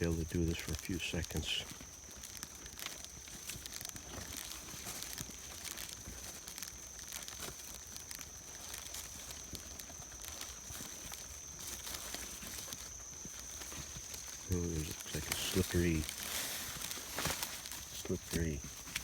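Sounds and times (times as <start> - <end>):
crackles and rustles: 0.0 - 19.0
footsteps crunching on dirt trail: 0.0 - 19.0.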